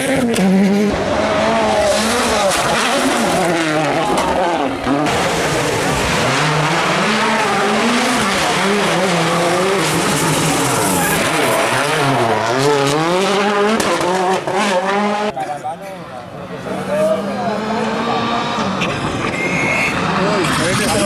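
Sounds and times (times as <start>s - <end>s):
rally car engine revving: 0.0s - 15.6s, 16.2s - 21.0s.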